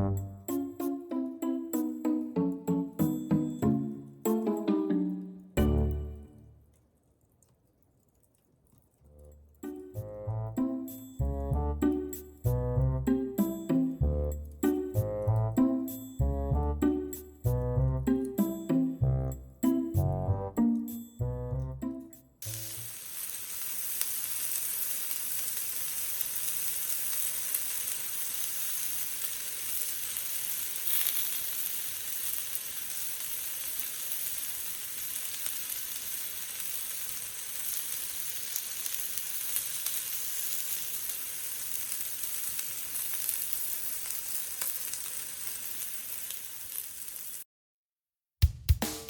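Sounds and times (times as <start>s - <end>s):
food sizzling in frying: 0.0s - 6.6s, 9.4s - 47.5s.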